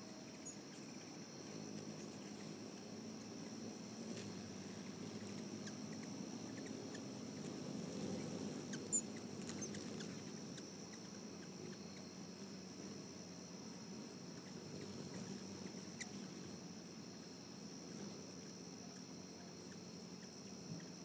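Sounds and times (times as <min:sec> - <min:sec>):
insect trilling: 0:00.0 - 0:21.0.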